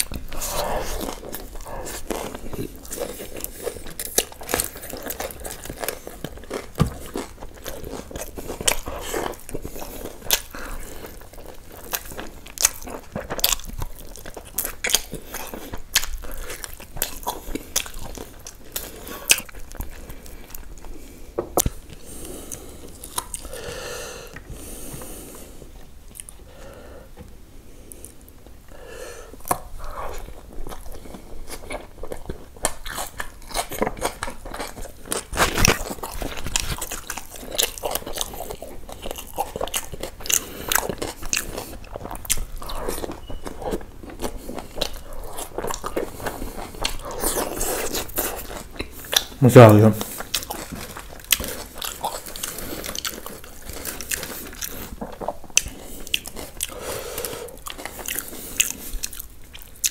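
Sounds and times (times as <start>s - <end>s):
chewing and biting chicken: 0.0s - 23.7s, 29.4s - 59.9s.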